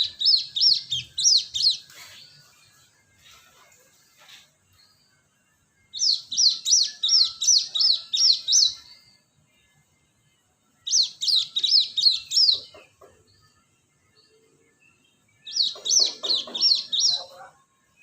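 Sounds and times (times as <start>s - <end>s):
bird singing high sweeping notes: 0.0s - 9.4s, 10.7s - 18.0s.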